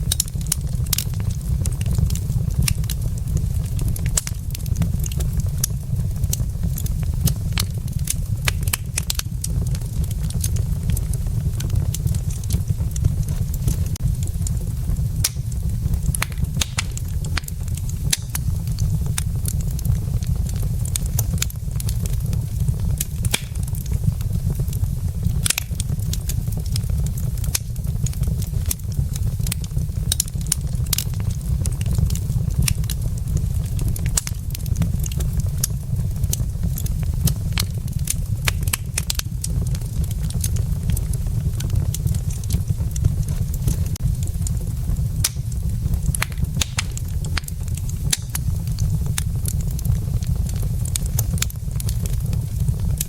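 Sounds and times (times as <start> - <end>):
logs crackling in fireplace: 0.0 - 53.0.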